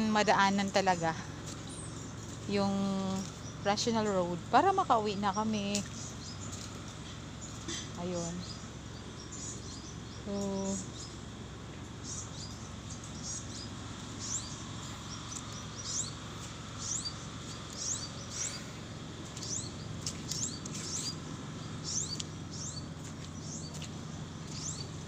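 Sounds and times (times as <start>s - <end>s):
small bird chirping: 0.0s - 4.5s, 5.1s - 11.2s, 12.0s - 25.0s.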